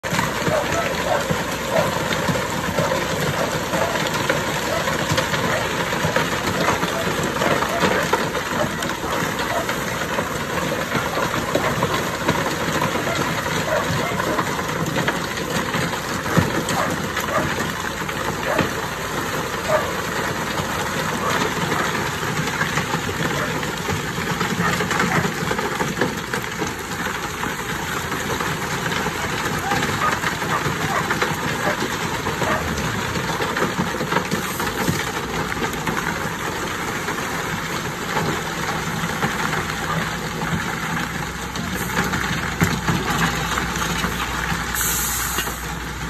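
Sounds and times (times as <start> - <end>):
truck engine running: 0.0 - 46.0
wet concrete pouring onto stones: 0.0 - 46.0.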